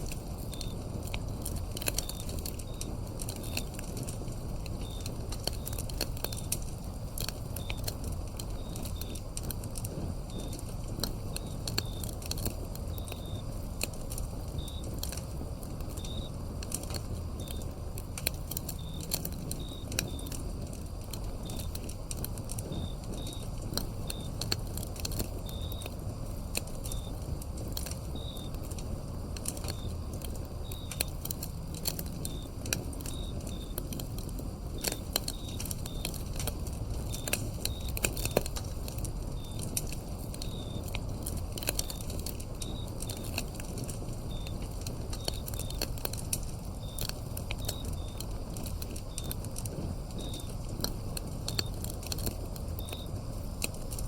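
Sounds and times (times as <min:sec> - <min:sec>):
crickets chirping: 0:00.0 - 0:54.0
wood fire crackling and popping: 0:00.0 - 0:54.0.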